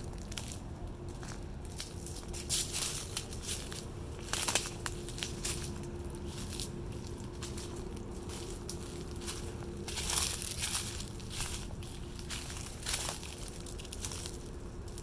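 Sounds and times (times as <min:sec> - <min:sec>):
footsteps crunching through dry leaves: 0:00.0 - 0:15.0.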